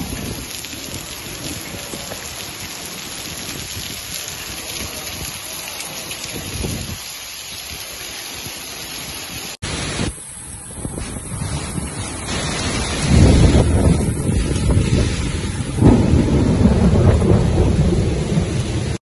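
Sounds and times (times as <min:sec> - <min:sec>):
hail and rain on paving: 0:00.0 - 0:19.0.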